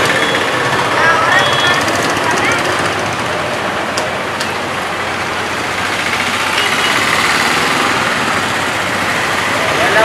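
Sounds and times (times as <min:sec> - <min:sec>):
vehicle engines running: 0:00.0 - 0:10.0.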